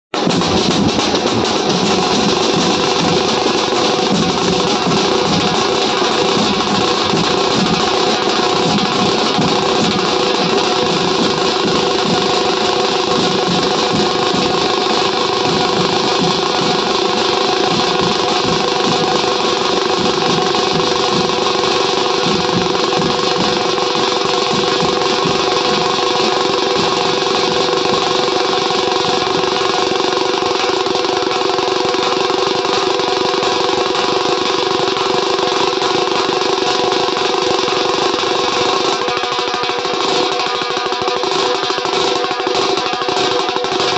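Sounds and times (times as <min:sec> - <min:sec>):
fast drumming: 0:00.1 - 0:43.9.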